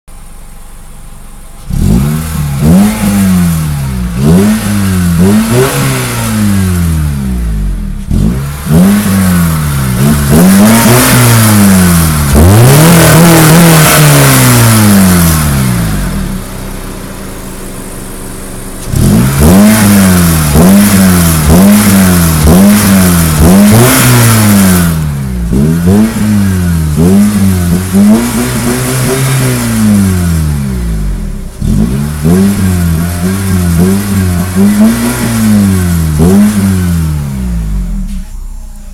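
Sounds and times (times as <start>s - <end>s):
car engine idling: 0.1s - 38.9s
car engine revving: 0.4s - 38.9s.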